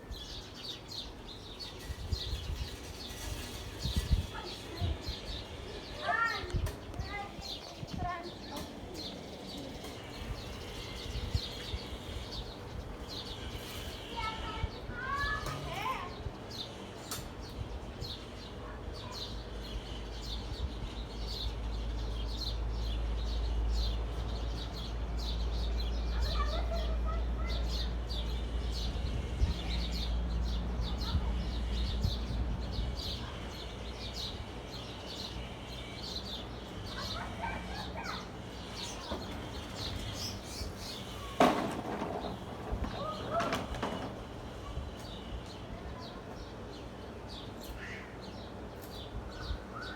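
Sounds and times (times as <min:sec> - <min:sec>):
small birds twittering: 0:00.0 - 0:49.9.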